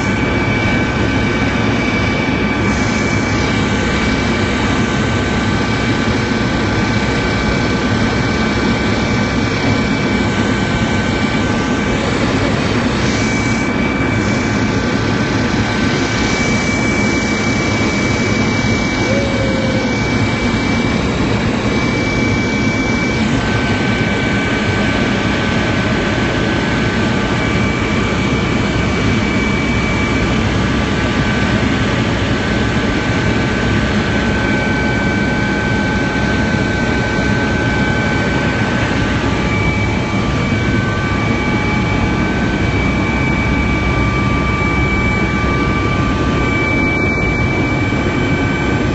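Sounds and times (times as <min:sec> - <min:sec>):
helicopter engine and rotor noise: 0:00.0 - 0:48.9
high-pitched whine: 0:00.0 - 0:48.9.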